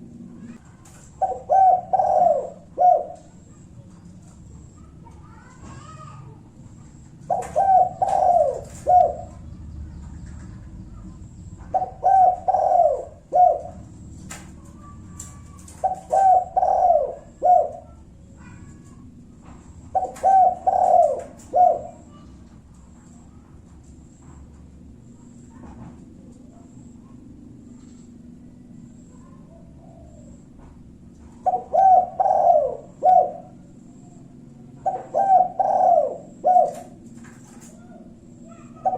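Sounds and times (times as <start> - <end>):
dove cooing: 0.0 - 24.2, 25.0 - 38.9.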